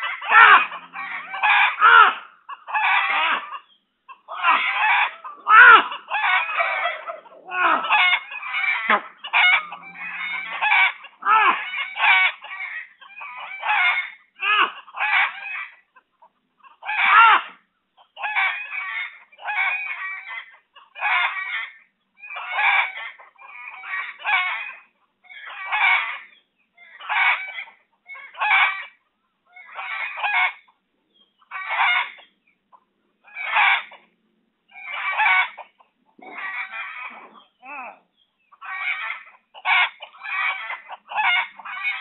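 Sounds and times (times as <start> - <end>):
fowl calling: 0.0 - 15.9, 16.6 - 30.8, 31.4 - 32.3, 33.2 - 34.1, 34.7 - 42.0.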